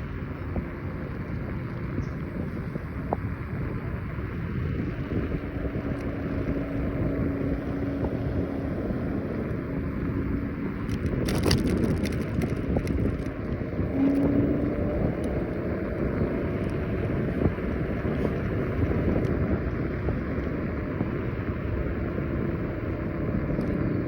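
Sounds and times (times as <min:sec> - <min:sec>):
crackling rattles: 0:00.0 - 0:23.8
faint steady whine: 0:00.0 - 0:24.0
wind buffeting microphone: 0:00.0 - 0:24.0.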